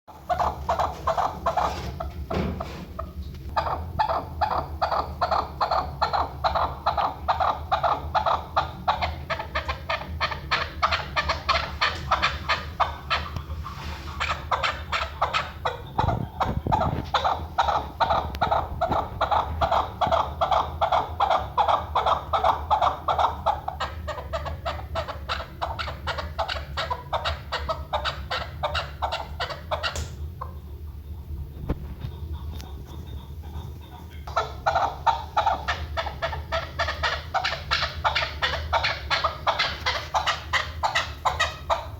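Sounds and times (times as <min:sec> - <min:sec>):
partridge clucking calls: 0:00.1 - 0:41.9.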